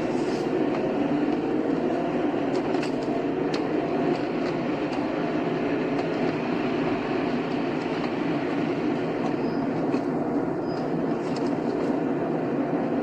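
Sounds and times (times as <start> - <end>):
car engine and tyre road noise: 0.0 - 13.0.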